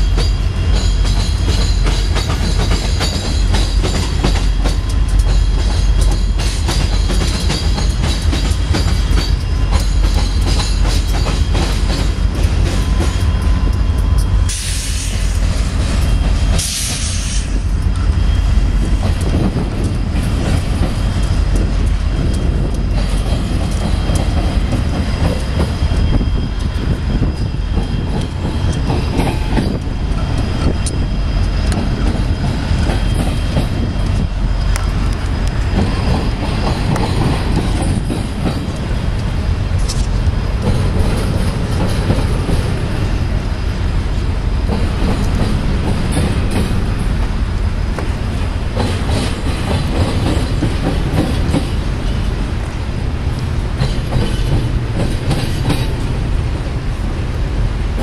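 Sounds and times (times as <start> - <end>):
wheels clicking over rail joints: 0.0 - 56.8
freight train rumbling past: 0.0 - 58.0.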